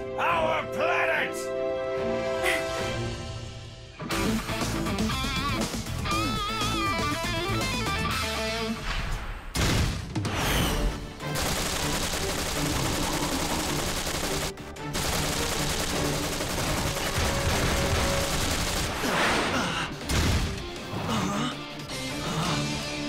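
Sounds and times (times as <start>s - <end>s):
action music: 0.0s - 23.0s.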